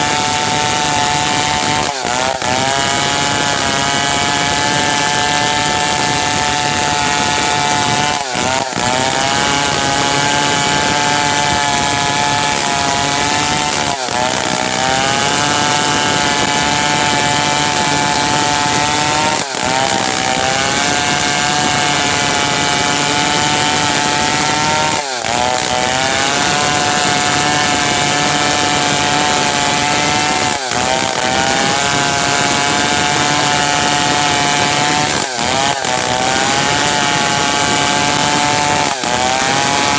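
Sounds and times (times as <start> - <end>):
chainsaw sawing timber: 0.0 - 39.9.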